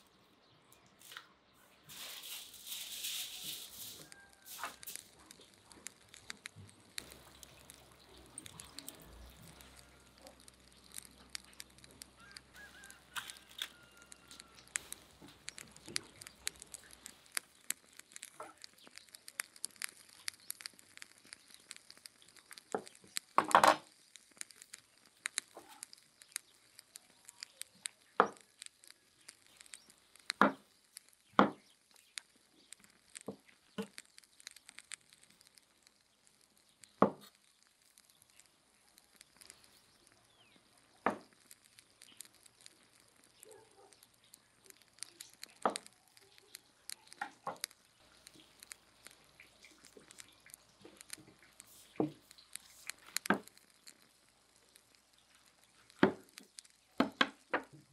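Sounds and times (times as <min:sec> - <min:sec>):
mushrooms tearing: 0:01.8 - 0:57.9.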